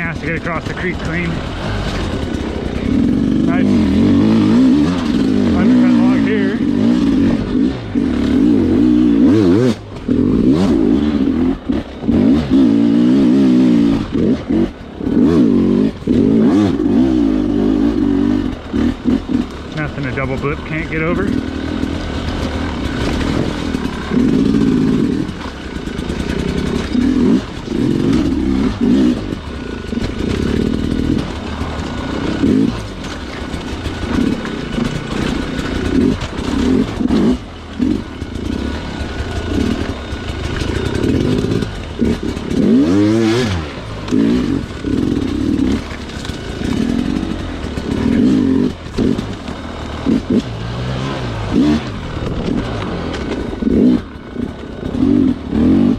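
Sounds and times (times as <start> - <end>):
two-stroke dirt bike revving: 0.0 - 55.9.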